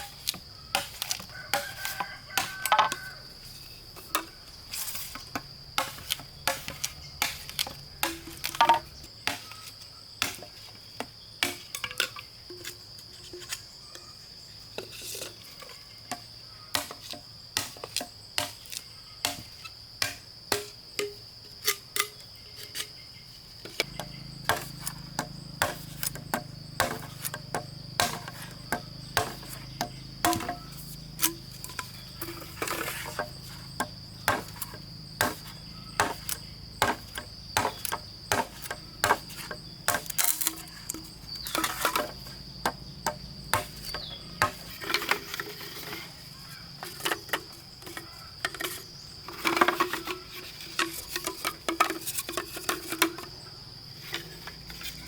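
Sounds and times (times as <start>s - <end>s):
hand tool striking wood: 0.0s - 3.1s, 4.0s - 12.8s, 16.1s - 22.8s, 23.7s - 53.4s
insects chirring: 0.0s - 55.0s.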